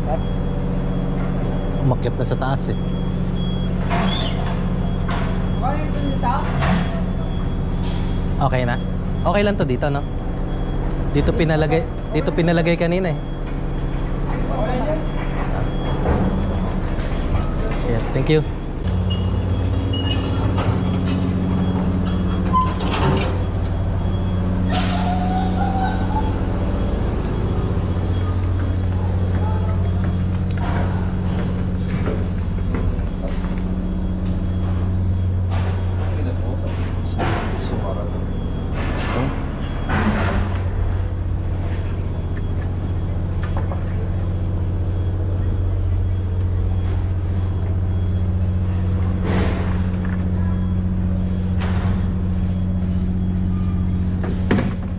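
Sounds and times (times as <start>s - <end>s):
ferry engines droning: 0.0s - 54.9s.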